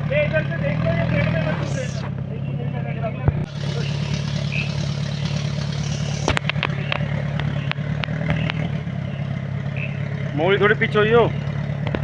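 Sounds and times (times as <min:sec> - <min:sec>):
engine running at low revs: 0:00.0 - 0:02.2, 0:03.3 - 0:12.0.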